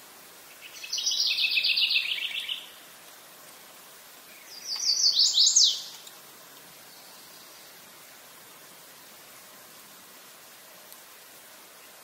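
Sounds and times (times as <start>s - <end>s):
songbird singing: 0.2s - 9.9s.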